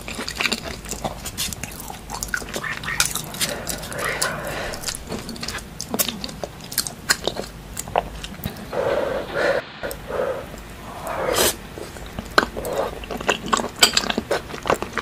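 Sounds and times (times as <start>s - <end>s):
people chewing with wet smacks: 0.0s - 8.8s, 9.8s - 15.0s.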